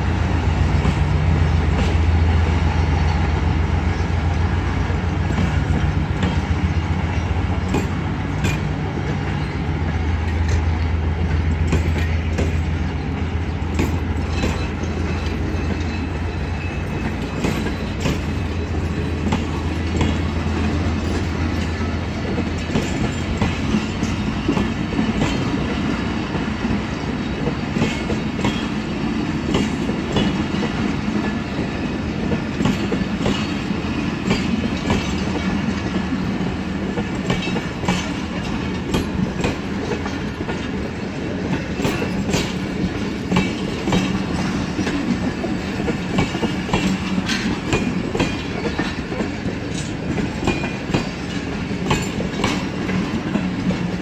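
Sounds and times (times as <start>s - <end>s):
train wheels rumbling on rails: 0.0s - 54.0s
wheels clattering over rail joints: 4.8s - 28.8s, 29.4s - 54.0s.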